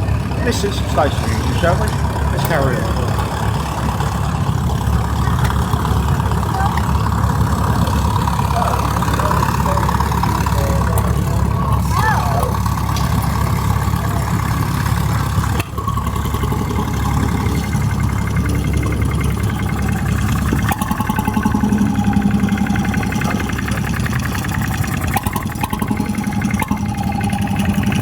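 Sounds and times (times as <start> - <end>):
stationary engines running: 0.0 - 28.0.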